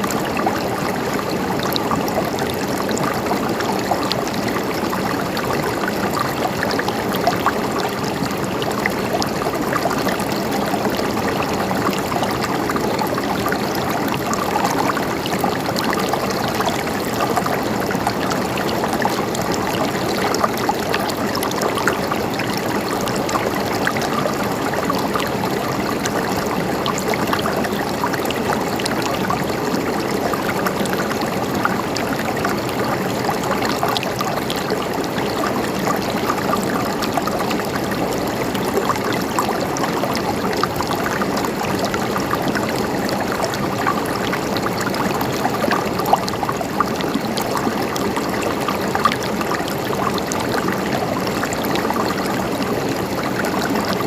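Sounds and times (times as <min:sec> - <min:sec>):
river water gurgling over rocks: 0:00.0 - 0:54.0.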